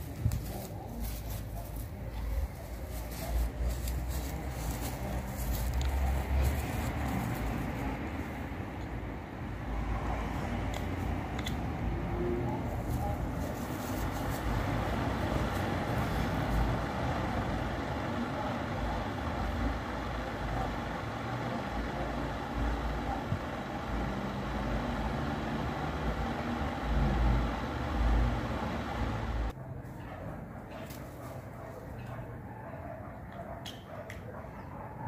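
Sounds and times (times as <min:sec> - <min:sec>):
electric fan whirring: 0:00.0 - 0:29.5.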